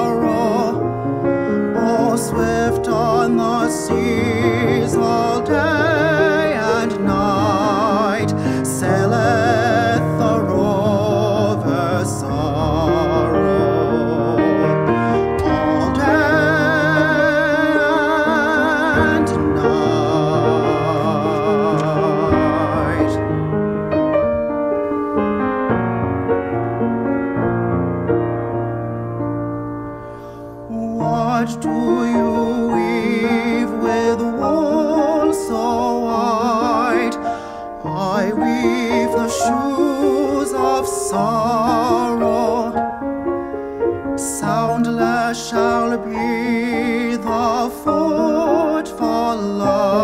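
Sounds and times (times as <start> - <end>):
tenor singing with vibrato: 0.0 - 26.2, 30.1 - 50.0
piano accompaniment: 0.0 - 50.0.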